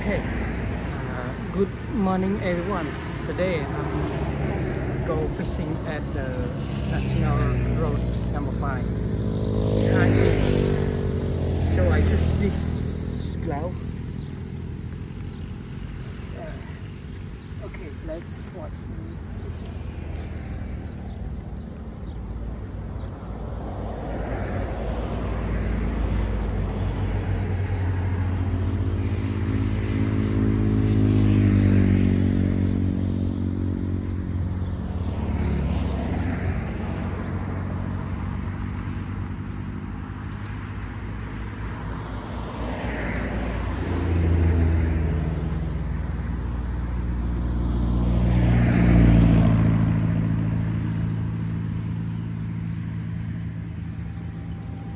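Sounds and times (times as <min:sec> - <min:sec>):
vehicles passing: 0:00.0 - 0:54.9.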